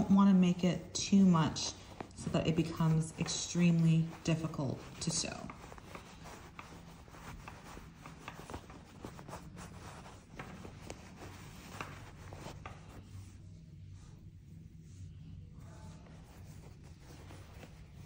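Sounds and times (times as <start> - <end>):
rustling of fibre and cloth: 0.0 - 18.0.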